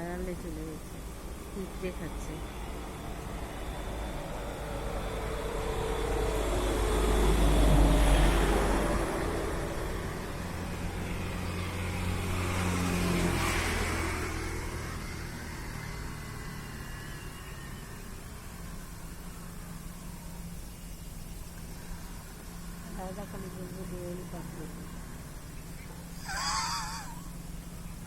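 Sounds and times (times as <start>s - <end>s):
vehicles passing by: 0.0s - 28.0s.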